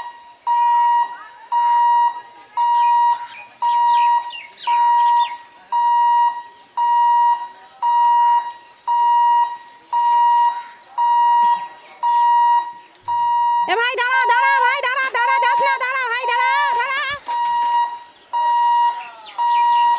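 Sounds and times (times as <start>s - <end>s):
level crossing warning beeps: 0.0s - 19.9s.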